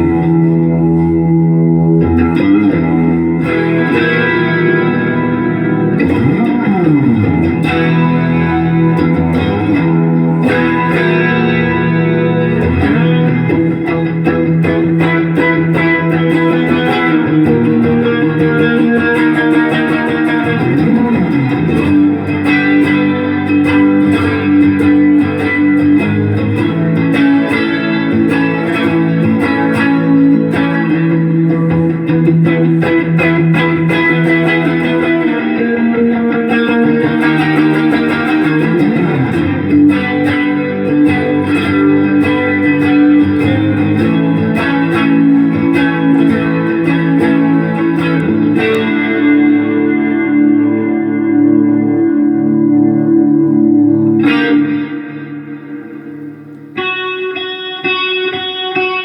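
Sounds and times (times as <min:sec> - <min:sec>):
electric guitar with effects: 0:00.0 - 0:59.0.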